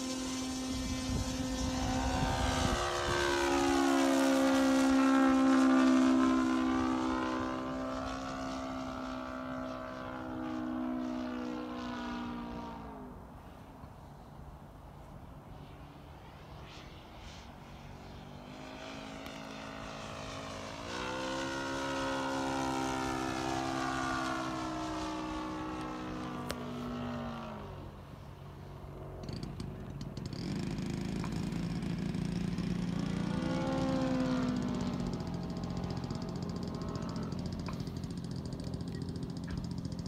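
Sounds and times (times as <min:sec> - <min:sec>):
model plane engine and propeller: 0:00.0 - 0:40.0.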